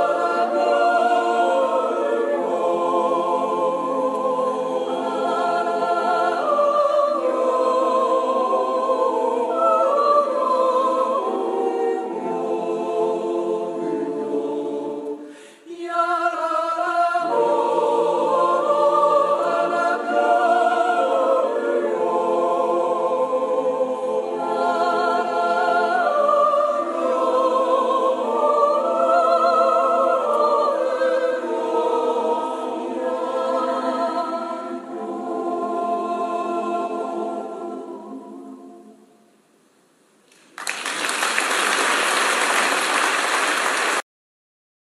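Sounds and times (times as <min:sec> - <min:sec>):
choir yodeling a cappella: 0:00.0 - 0:39.4.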